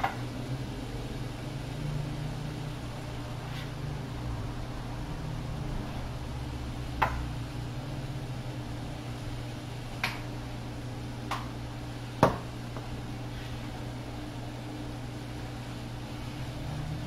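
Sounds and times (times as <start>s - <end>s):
kitchen vent fan humming: 0.0s - 17.0s.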